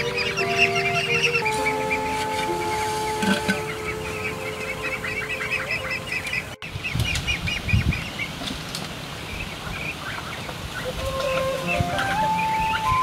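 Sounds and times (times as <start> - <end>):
ducks chirping calls: 0.0 - 13.0.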